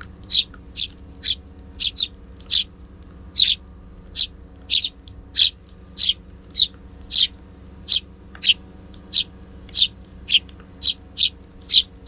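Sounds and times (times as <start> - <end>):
faint low hum: 0.0 - 12.0
sparrow chirping: 0.0 - 12.0.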